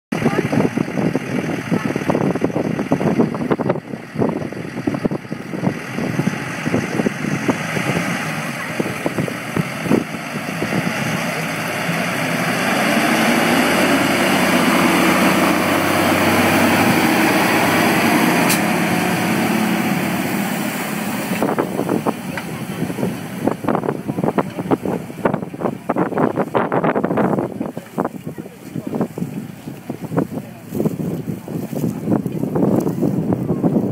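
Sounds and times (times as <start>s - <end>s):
tractor diesel engine: 0.1s - 33.9s.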